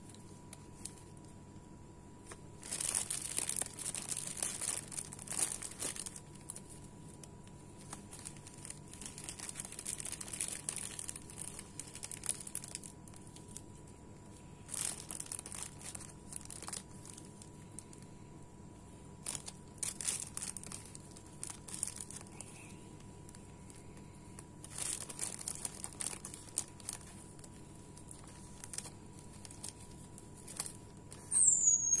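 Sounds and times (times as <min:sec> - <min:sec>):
plastic bags crinkling: 0:00.0 - 0:01.3, 0:02.2 - 0:18.2, 0:19.0 - 0:32.0.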